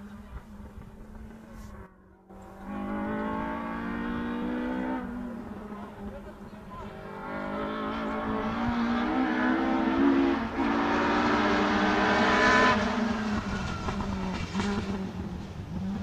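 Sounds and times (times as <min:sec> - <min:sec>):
rally car engine accelerating: 0:00.2 - 0:16.0.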